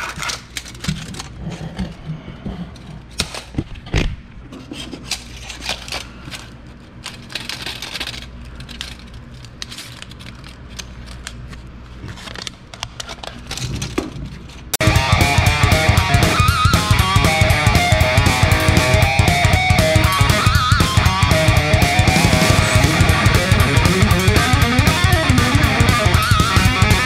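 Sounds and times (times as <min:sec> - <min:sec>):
steady low hum: 0:00.4 - 0:27.0.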